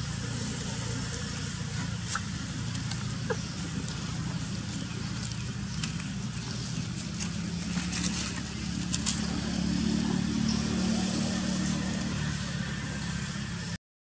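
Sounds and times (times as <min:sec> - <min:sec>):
dry leaves crackling: 0:00.0 - 0:13.5
vehicle engine humming: 0:00.0 - 0:13.8.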